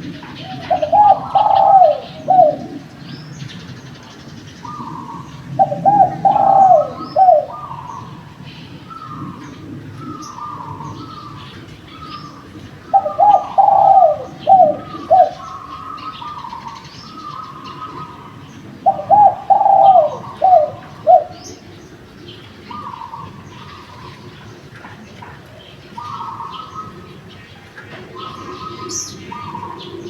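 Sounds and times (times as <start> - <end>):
faint dove coos: 0.0 - 21.8, 25.0 - 30.0
dove cooing: 0.0 - 30.0
small birds chirping: 0.0 - 30.0.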